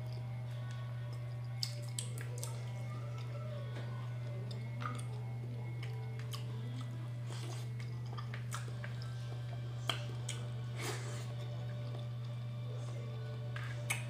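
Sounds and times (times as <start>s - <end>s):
person chewing food: 0.0s - 3.4s, 4.1s - 12.6s
steady low hum: 0.0s - 14.0s.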